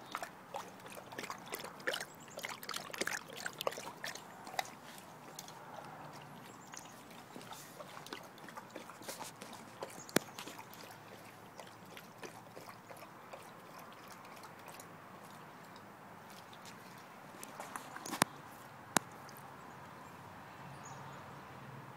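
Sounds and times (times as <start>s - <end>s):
dog lapping water from bowl: 0.0s - 18.3s.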